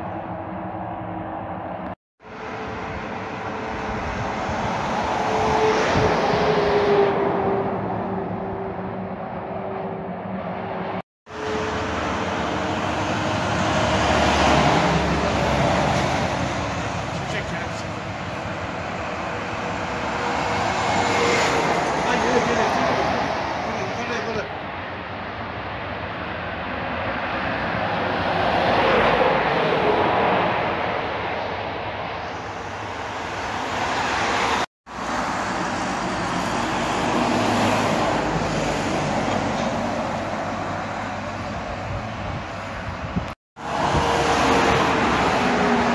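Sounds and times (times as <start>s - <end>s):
highway traffic passing: 0.0s - 45.9s.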